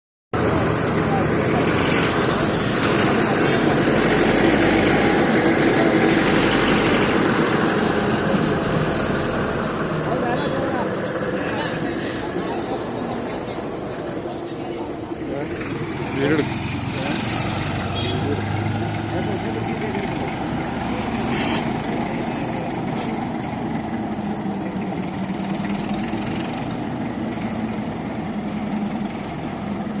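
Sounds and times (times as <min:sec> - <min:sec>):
heavy vehicle engine idling: 0:00.4 - 0:30.0.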